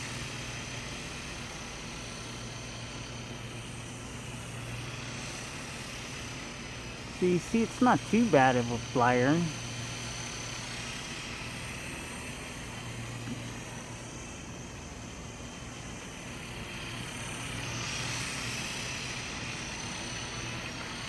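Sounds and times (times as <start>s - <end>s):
toy helicopter whirring: 0.0s - 21.0s.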